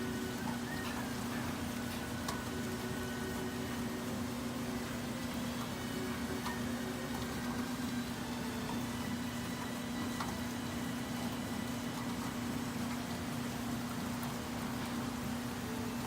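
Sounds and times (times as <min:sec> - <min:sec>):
rain falling: 0:00.0 - 0:16.0
rain drop ticks: 0:00.2 - 0:16.0.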